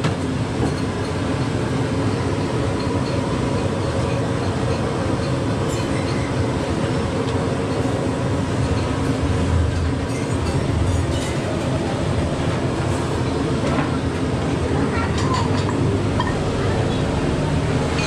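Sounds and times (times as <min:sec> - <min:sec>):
gas burner roaring: 0:00.0 - 0:18.0.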